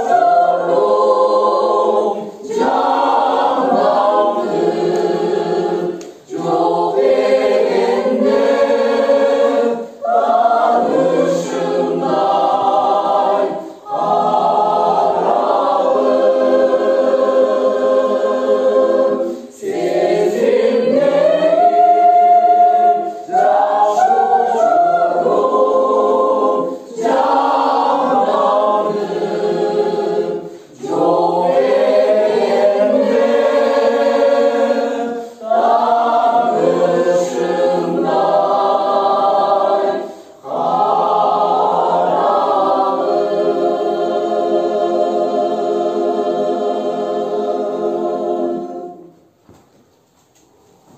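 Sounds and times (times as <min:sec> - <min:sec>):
mixed choir singing: 0:00.0 - 0:49.5.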